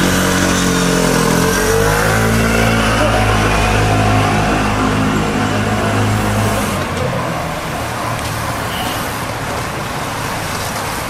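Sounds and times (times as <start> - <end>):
vehicle engine running: 0.0 - 10.0
cyclists rushing past: 0.0 - 11.0.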